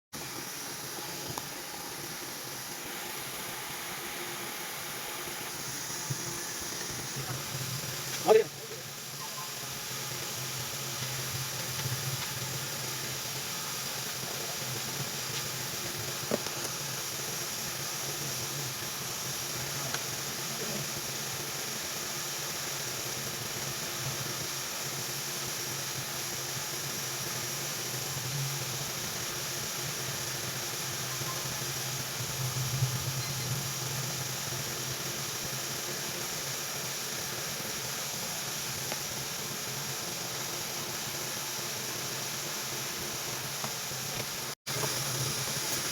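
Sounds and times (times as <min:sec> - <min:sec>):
hot air blower hissing: 0:00.1 - 0:45.9.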